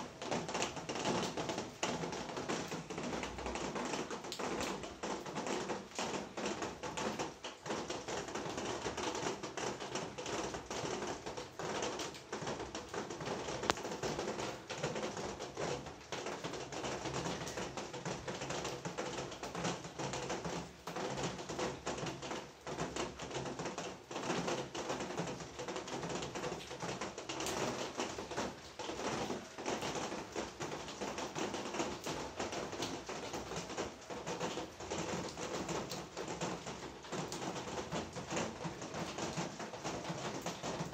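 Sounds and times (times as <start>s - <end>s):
rain pattering on hard surfaces: 0.0s - 40.9s.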